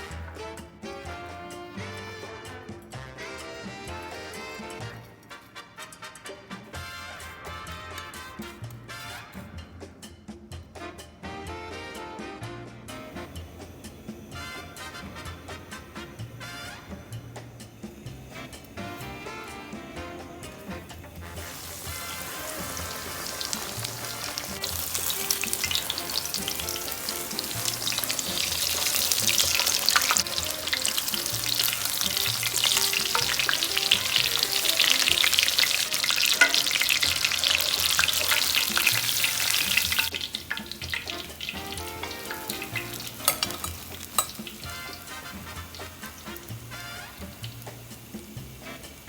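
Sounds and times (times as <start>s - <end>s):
chicken sizzling in hot oil: 0.0s - 9.6s, 11.5s - 49.0s
background music: 0.0s - 49.0s.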